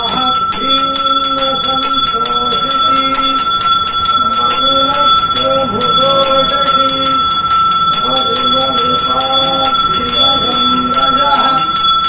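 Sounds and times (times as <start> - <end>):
low monotone chant: 0.0 - 12.0
temple bell ringing rapidly: 0.0 - 12.0.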